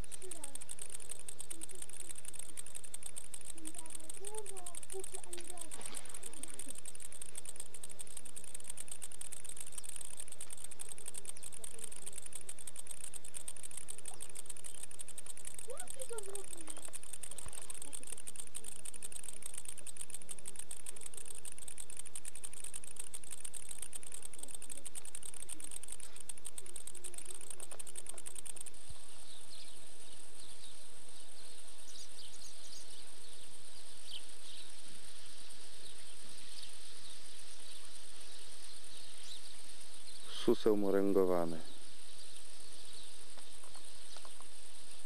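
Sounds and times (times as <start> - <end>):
insects buzzing and trilling: 0.0 - 45.0.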